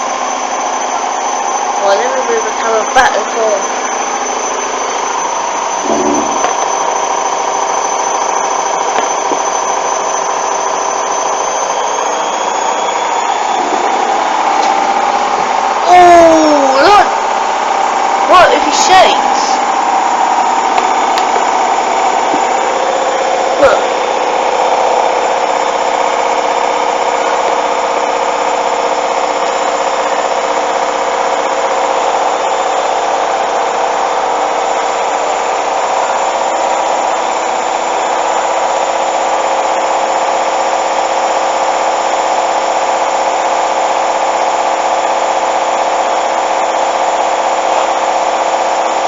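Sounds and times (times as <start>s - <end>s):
washing machine spinning: 0.0s - 49.0s.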